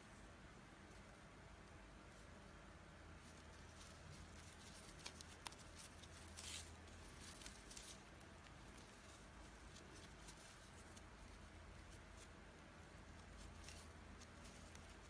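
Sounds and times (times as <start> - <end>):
yarn crackling and rustling: 0.0 - 15.0.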